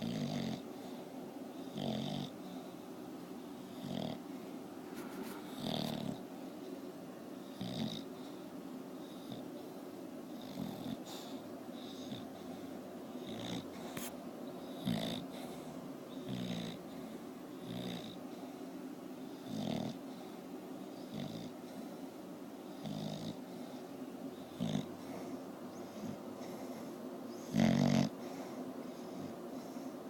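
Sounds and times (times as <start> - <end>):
dog snoring: 0.0 - 2.8, 3.5 - 4.4, 5.1 - 6.3, 7.4 - 18.6, 19.2 - 29.9.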